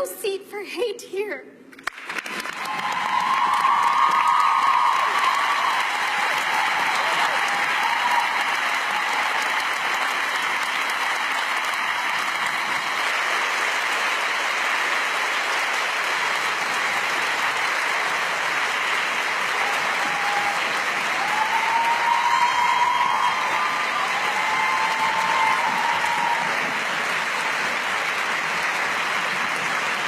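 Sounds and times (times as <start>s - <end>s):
sustained applause: 1.8s - 30.0s.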